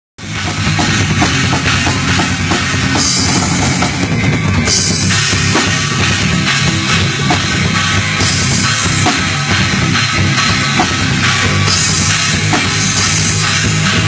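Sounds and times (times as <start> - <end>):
drum kit beat: 0.2 - 14.0
rock band playing: 0.2 - 14.0.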